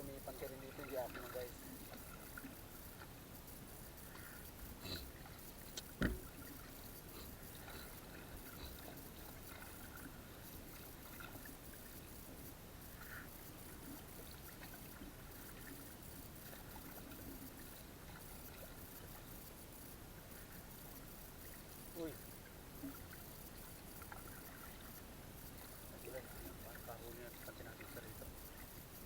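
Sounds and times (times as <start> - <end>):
faint water sound: 0.0 - 29.0.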